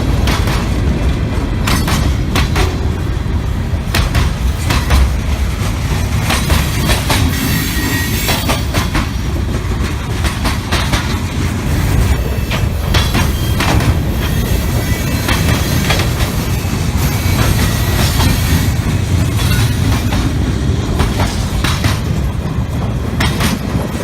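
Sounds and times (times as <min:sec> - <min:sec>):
railroad cars rumbling past: 0:00.0 - 0:24.0
wheels clattering over rails: 0:00.0 - 0:24.0.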